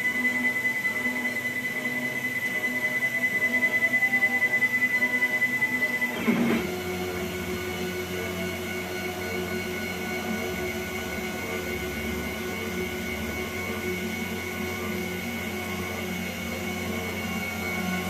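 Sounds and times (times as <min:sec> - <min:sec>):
stepper motors whining: 0:00.0 - 0:18.0.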